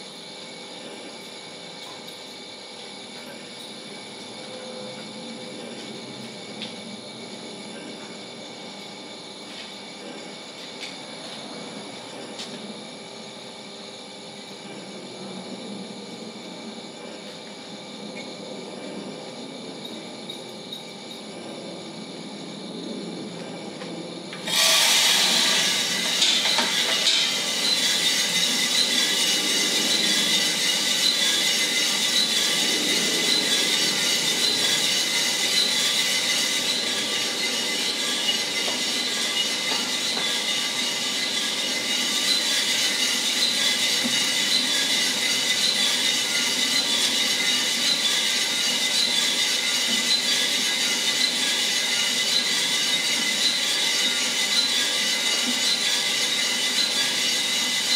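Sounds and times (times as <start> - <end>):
coffee roaster whirring and whining: 0.0 - 57.9.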